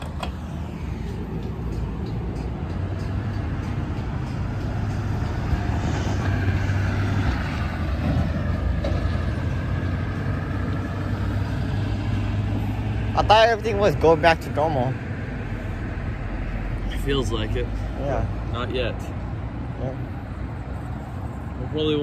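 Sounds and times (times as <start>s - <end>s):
road traffic engine and tyre noise: 0.0s - 22.0s.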